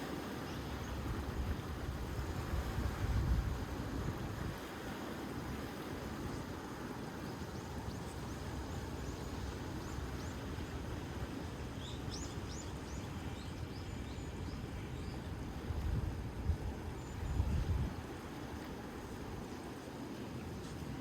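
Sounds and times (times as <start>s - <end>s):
surf on rocky shore: 0.0s - 21.0s
wind: 0.0s - 21.0s.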